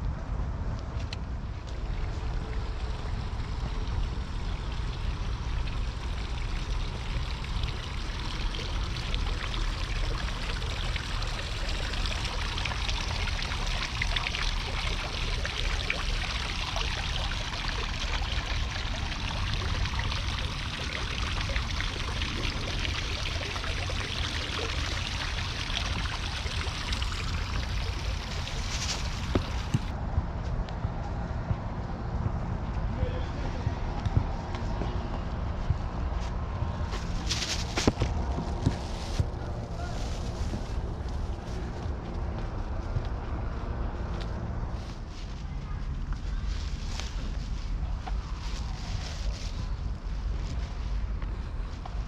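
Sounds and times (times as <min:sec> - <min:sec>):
skateboard wheels rolling on pavement: 0:00.2 - 0:30.1, 0:34.0 - 0:52.0.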